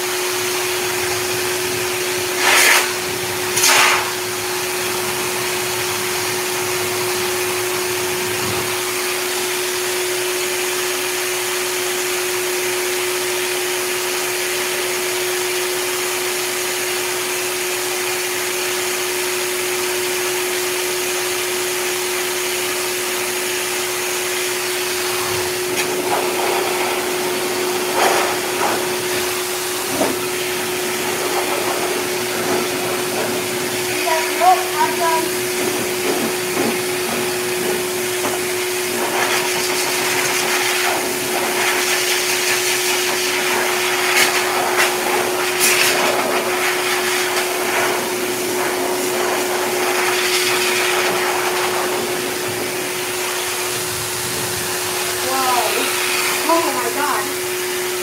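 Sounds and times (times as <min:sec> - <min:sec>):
pet dryer blowing air: 0:00.0 - 0:58.0.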